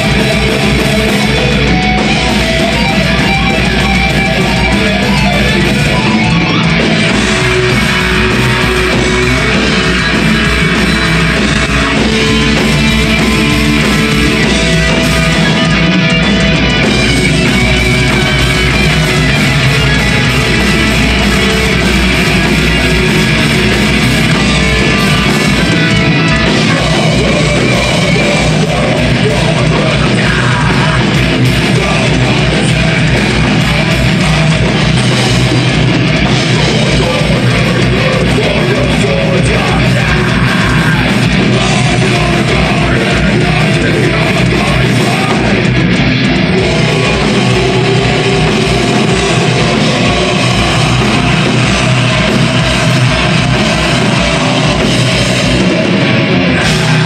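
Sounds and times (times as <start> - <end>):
bass guitar: 0.0 - 57.0
distorted electric guitars: 0.0 - 57.0.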